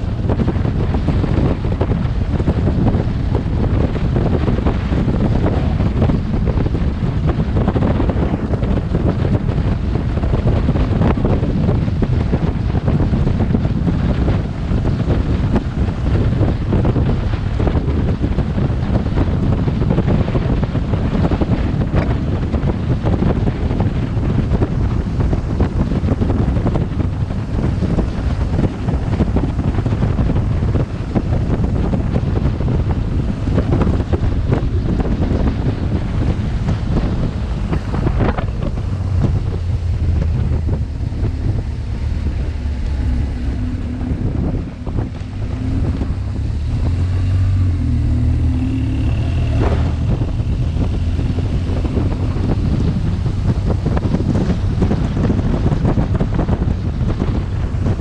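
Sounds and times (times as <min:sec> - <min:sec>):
motorcycle engine drone: 0:00.0 - 0:58.0
wind buffeting microphone: 0:00.0 - 0:58.0.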